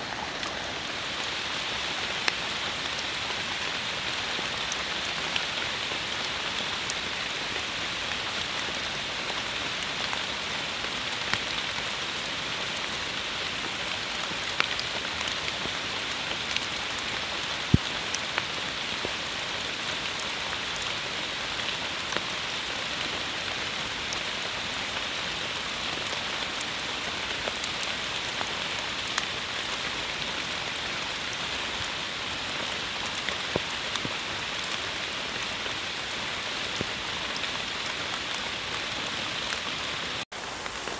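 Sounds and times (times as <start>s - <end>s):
louder raindrops: 0.0s - 40.9s
rain on foliage: 0.0s - 40.9s.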